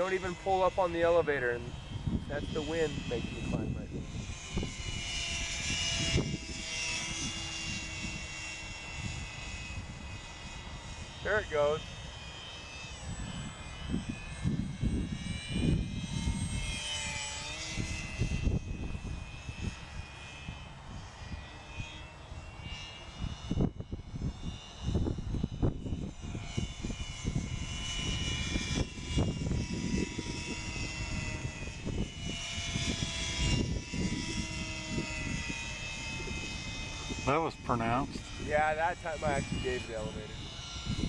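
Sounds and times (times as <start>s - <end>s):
wind buffeting microphone: 0.0s - 12.2s, 12.9s - 41.0s
model plane motor whine: 0.0s - 41.0s.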